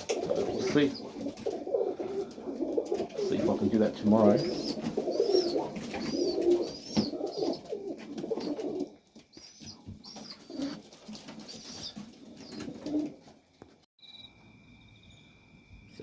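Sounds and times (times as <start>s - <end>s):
pigeons cooing: 0.0s - 13.4s.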